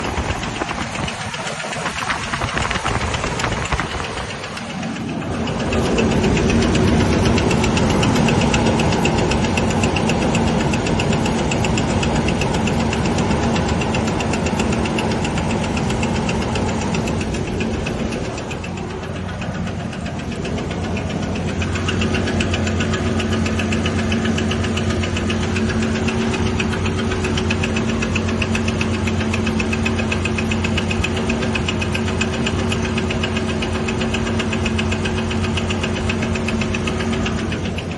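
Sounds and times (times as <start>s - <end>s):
engine running with rapid knocking: 0.0s - 37.9s.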